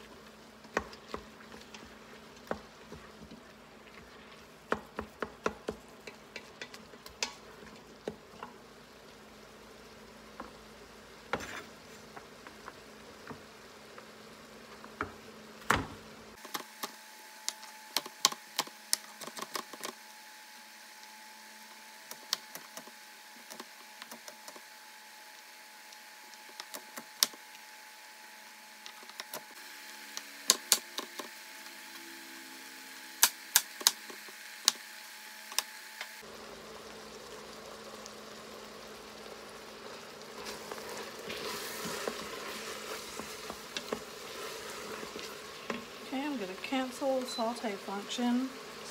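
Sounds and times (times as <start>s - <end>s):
faint sizzle of meat browning: 0.0s - 48.9s.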